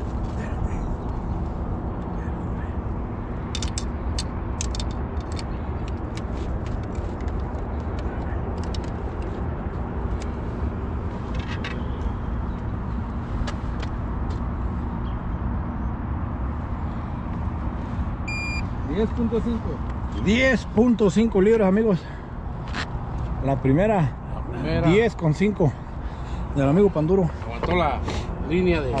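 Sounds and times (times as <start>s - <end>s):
city road traffic rumble: 0.0s - 29.0s.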